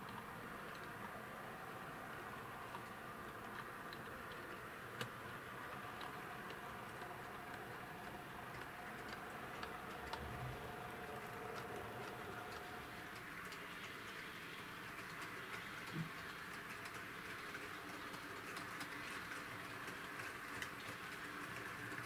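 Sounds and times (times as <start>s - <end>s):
faint motor whine: 0.0s - 22.0s
wheels clicking on track: 0.0s - 22.0s.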